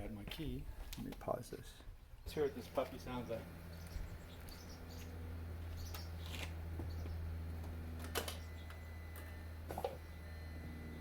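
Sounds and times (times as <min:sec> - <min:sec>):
low steady hum: 0:01.7 - 0:11.0.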